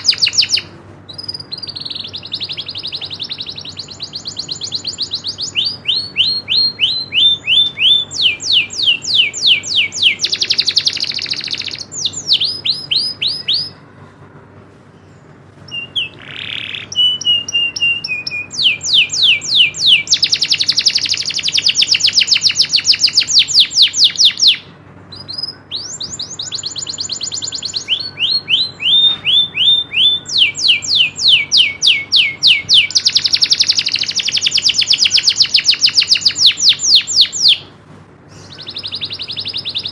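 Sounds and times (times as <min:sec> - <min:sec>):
canary singing trills: 0:00.0 - 0:13.8, 0:15.7 - 0:37.7, 0:38.3 - 0:39.9.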